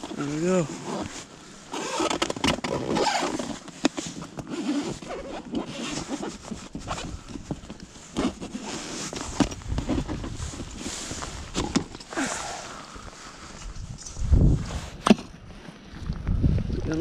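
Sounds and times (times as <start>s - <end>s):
gloved hands rustling bucket: 0.0s - 15.9s.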